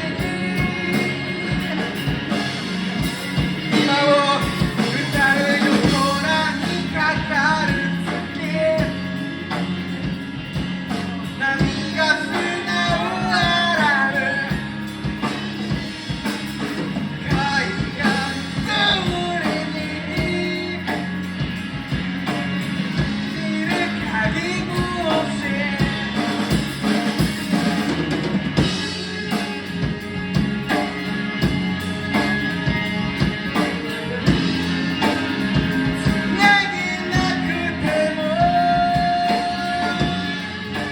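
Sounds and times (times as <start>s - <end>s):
person singing: 0.0s - 27.6s, 28.6s - 40.9s
rock band playing: 0.0s - 40.9s.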